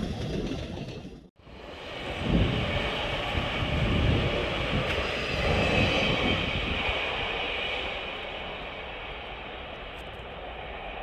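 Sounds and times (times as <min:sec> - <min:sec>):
electric train pulling away: 0:01.4 - 0:11.0.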